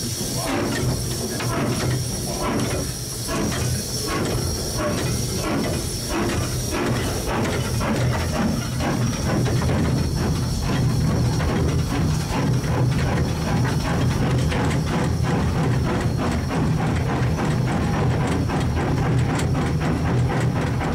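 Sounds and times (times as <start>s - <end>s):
faint regular locomotive beats: 0.0s - 20.9s
low locomotive rumble: 0.0s - 20.9s
steam hissing: 0.0s - 20.9s.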